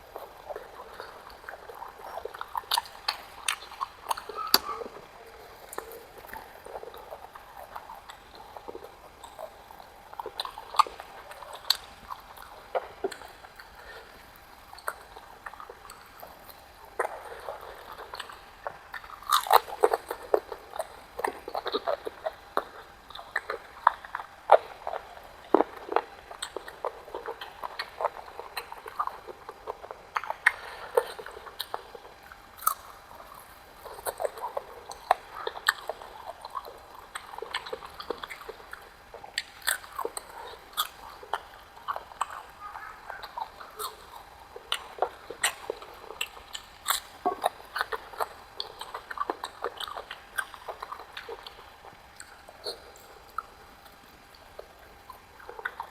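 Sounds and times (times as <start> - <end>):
close-up chewing and crunching: 0.0 - 55.9.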